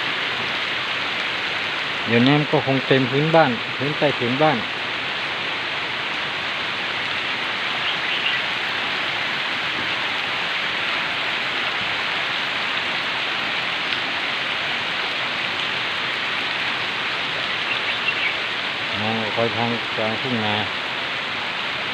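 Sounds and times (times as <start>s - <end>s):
heavy rain pouring: 0.0s - 21.9s.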